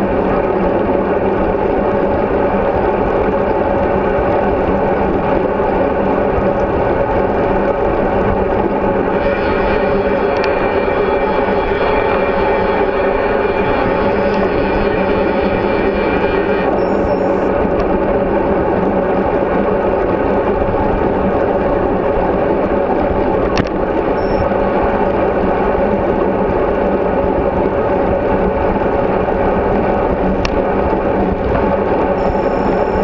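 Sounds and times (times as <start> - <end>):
road noise: 0.0 - 33.0
wind rush: 0.0 - 33.0.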